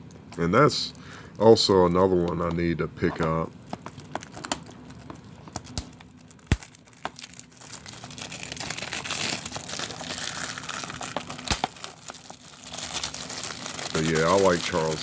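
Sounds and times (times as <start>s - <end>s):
plastic packaging crinkling: 0.6s - 15.0s.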